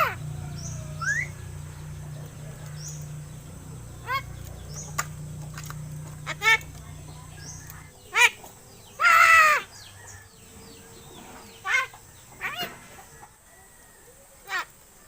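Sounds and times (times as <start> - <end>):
myna bird harsh calls: 0.0 - 13.3.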